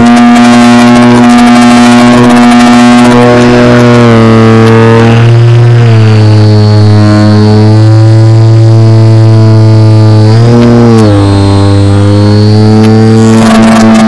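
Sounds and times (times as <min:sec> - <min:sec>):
model plane motor and propeller: 0:00.0 - 0:14.0
thin high whine: 0:00.0 - 0:14.0.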